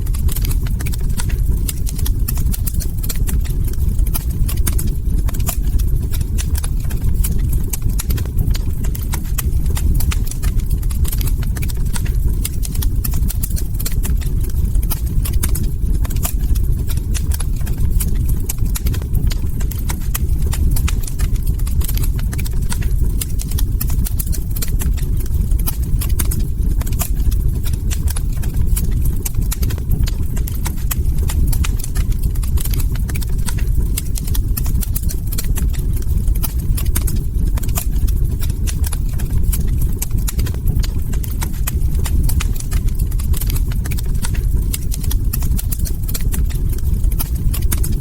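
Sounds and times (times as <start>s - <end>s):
log fire crackling: 0.0s - 48.0s.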